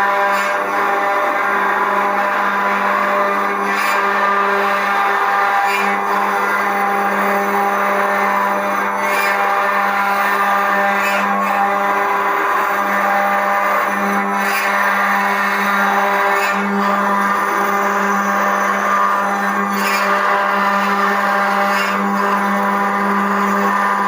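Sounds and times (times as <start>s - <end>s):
router spindle carving wood: 0.0s - 24.0s.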